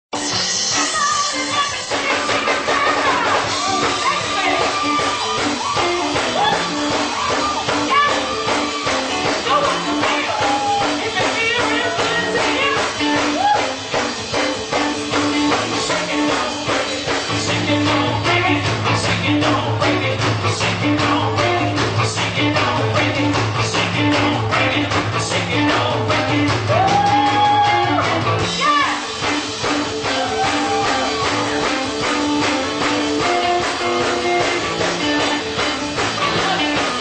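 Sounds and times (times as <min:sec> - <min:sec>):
live soul band playing: 0:00.2 - 0:37.0
person singing: 0:00.2 - 0:37.0.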